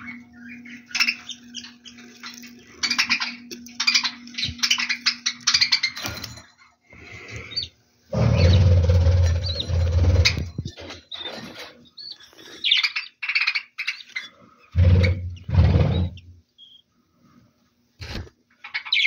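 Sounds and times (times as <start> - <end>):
budgerigars chattering: 0.0 - 6.0, 7.4 - 16.8, 18.6 - 19.0
steady low hum: 0.0 - 12.6, 14.2 - 18.6.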